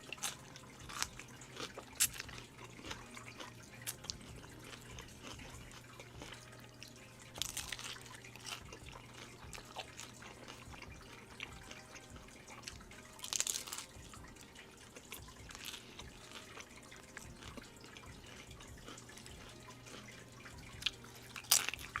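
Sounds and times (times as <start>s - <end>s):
water dripping and splashing: 0.0s - 22.0s.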